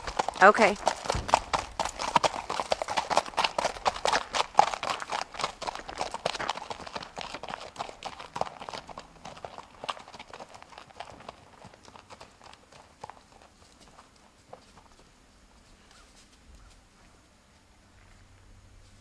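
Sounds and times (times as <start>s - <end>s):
horse hoofbeats on hard ground: 0.0s - 16.8s.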